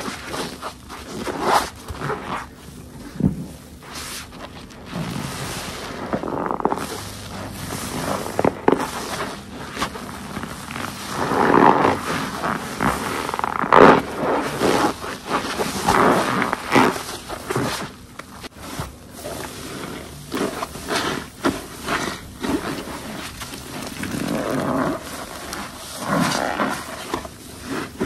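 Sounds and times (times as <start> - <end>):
wet sponge squelching: 0.0 - 28.0.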